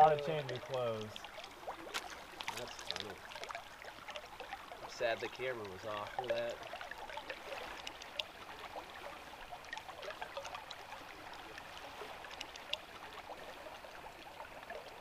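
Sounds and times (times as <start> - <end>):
river water trickling: 0.0 - 15.0
small ticks and drips: 0.0 - 15.0.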